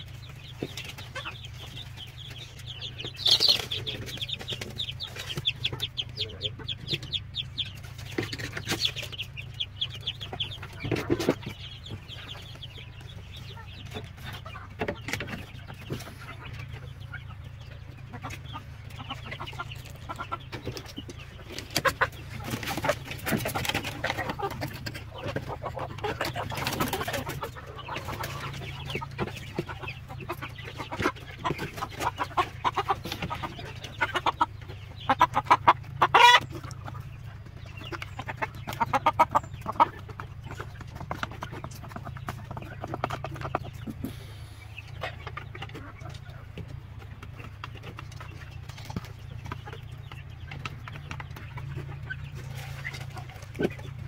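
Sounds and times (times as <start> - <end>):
chicken clucking: 0.0 - 54.0
chicks peeping: 0.0 - 54.0.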